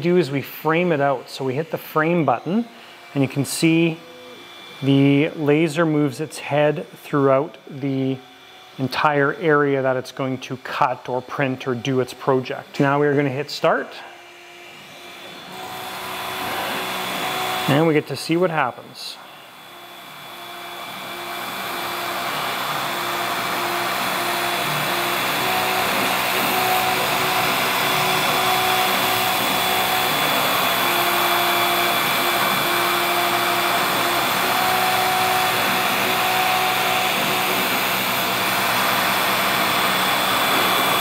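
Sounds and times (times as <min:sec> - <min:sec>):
motor whines: 0:00.7 - 0:41.0.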